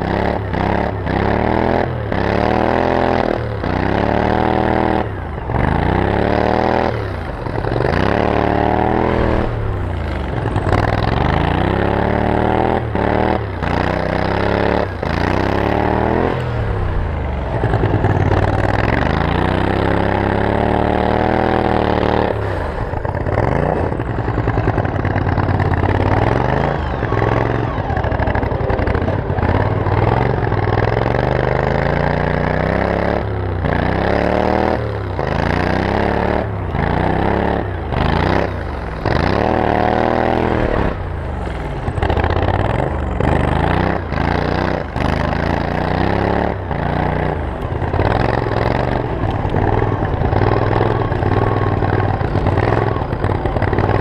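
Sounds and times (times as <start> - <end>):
lawn mower engine revving: 0.0 - 54.0.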